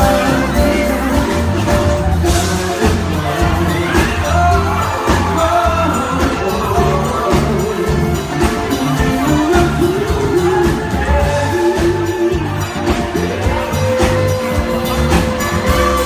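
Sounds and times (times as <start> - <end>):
bass line: 0.0 - 16.0
live pop band playing: 0.0 - 16.0
man singing: 0.0 - 16.0.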